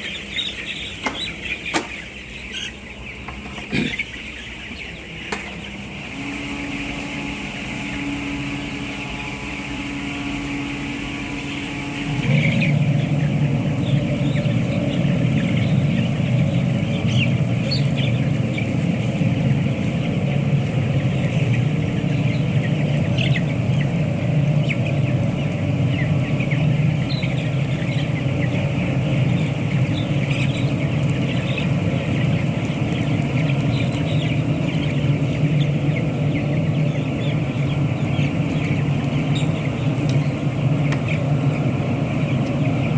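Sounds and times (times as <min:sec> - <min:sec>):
chicks cheeping: 0:00.0 - 0:42.9
machine humming: 0:00.0 - 0:42.9.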